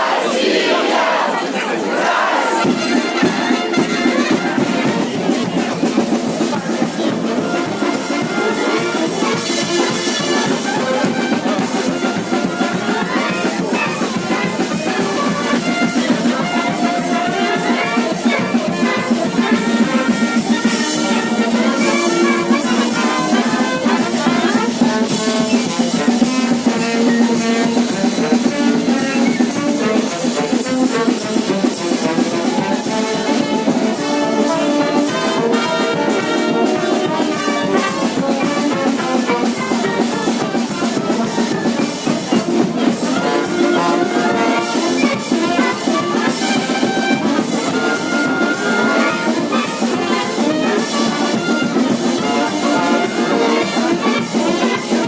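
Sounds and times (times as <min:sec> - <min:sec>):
brass band playing: 0:00.0 - 0:55.0
drums beating: 0:00.0 - 0:55.0.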